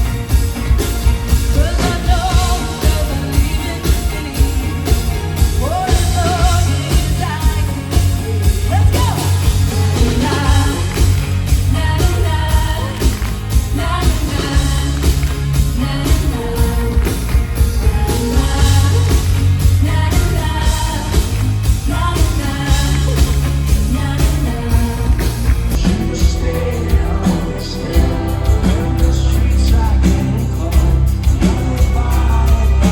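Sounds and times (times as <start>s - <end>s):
drum beat: 0.0s - 32.9s
heavy bass: 0.0s - 32.9s
lead singer singing: 0.0s - 32.9s
rock band playing live: 0.0s - 32.9s.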